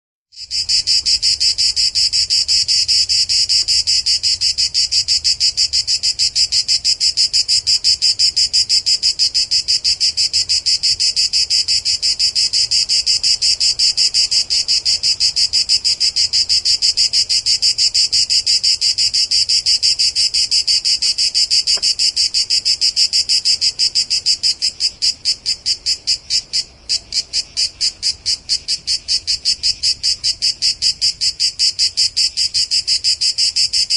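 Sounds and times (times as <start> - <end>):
cicada shrill pulsing buzz: 0.3 - 33.9.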